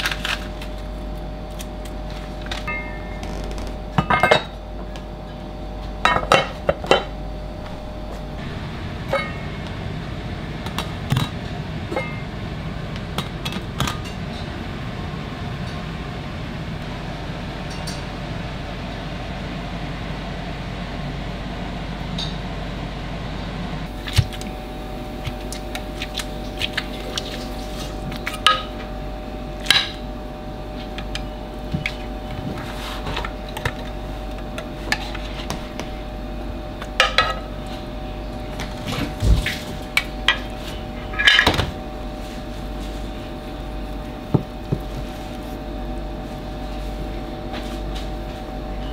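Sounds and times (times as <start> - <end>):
kitchen hum: 0.0 - 48.9.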